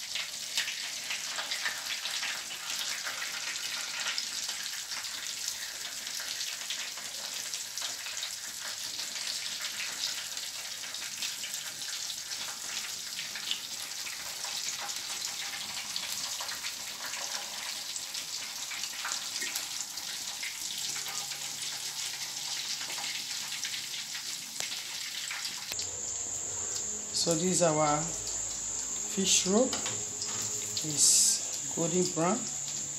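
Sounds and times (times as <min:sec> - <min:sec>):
food deep-frying in oil: 0:00.0 - 0:32.9.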